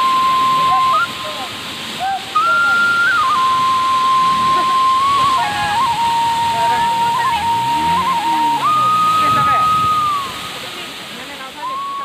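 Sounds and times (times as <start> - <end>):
slow melody of high held notes: 0.0 - 12.0
waterfall rushing: 0.0 - 12.0.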